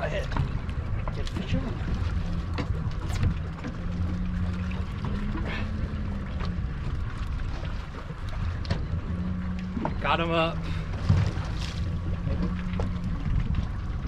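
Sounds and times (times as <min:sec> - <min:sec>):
boat engine hum: 0:00.0 - 0:14.0
water noise: 0:00.0 - 0:14.0
wind: 0:00.0 - 0:14.0.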